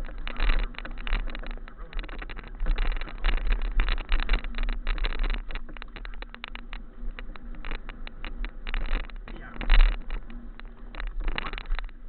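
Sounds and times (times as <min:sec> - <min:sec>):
bike rattling and knocking: 0:00.0 - 0:12.0
wind rumble on microphone: 0:00.0 - 0:12.0.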